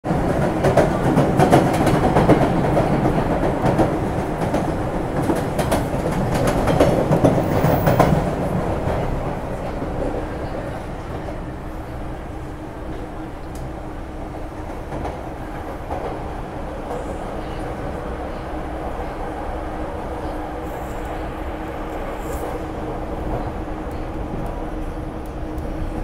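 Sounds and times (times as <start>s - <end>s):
subway train rumble: 0.0s - 26.0s.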